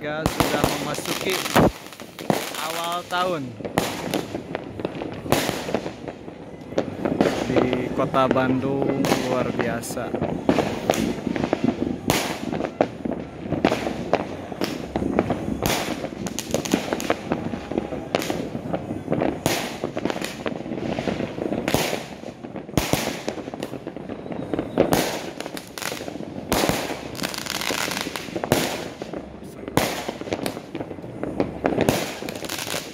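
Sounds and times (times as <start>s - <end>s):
fireworks bangs: 0.0s - 32.9s
fireworks crackling: 0.0s - 32.9s.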